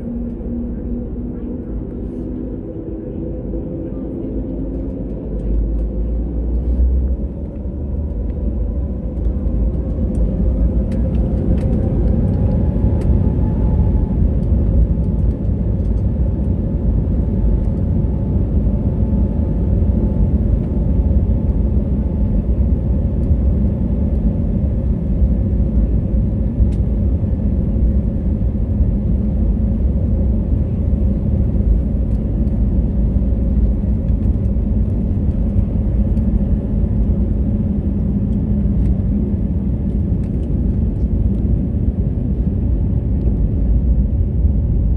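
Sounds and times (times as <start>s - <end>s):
jet engines rumbling: 0.0s - 44.9s.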